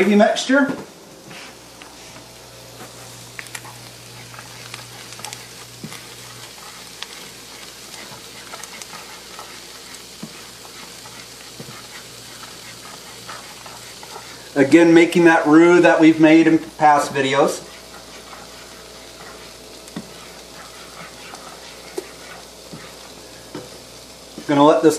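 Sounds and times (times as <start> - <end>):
roux sizzling in a skillet: 1.3 - 24.9
spatula scraping a skillet: 2.8 - 23.8.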